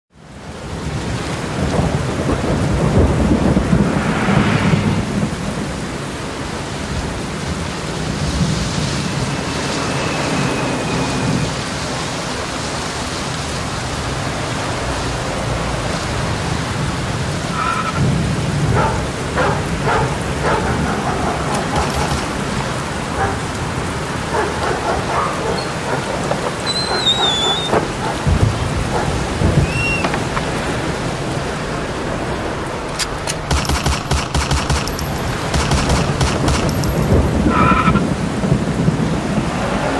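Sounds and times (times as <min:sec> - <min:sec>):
steady rain: 0:00.1 - 0:39.9
thunder rolling: 0:00.9 - 0:12.3, 0:14.2 - 0:39.9.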